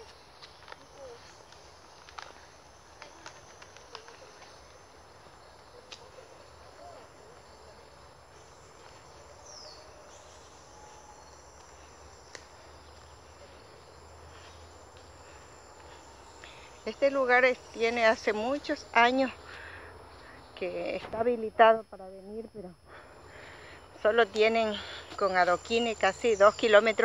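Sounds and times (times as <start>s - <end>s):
insects hissing: 0.0s - 27.0s.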